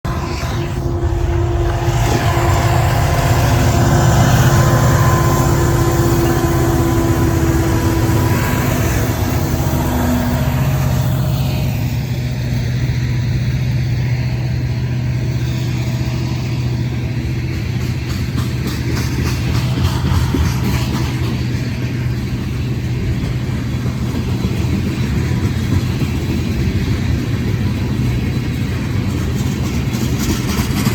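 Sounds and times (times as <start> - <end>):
diesel locomotive engine drone: 0.0 - 30.9
rolling rail noise: 0.0 - 30.9.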